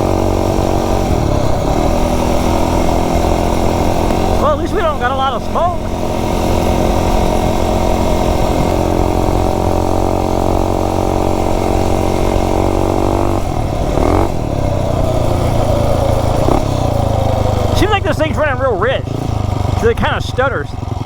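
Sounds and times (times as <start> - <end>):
stuttering minibike engine running: 0.0 - 21.0.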